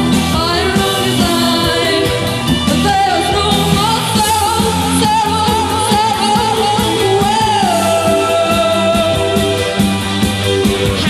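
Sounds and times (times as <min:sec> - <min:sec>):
live rock band: 0:00.0 - 0:11.0.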